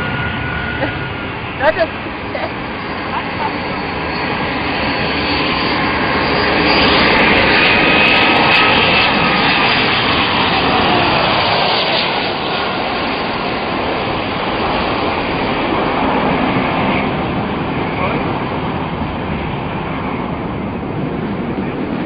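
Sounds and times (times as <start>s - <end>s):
airliner jet engines rushing: 0.0s - 22.0s
jet engine whine: 0.0s - 22.0s.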